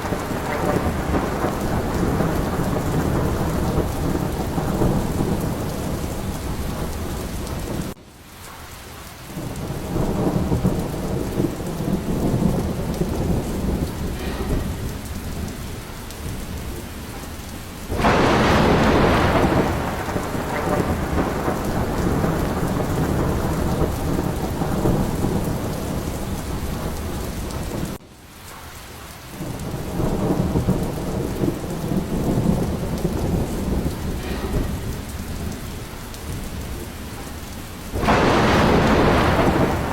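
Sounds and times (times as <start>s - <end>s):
thunder rumbling: 0.0s - 28.6s, 29.3s - 39.9s
steady rain: 0.0s - 39.9s.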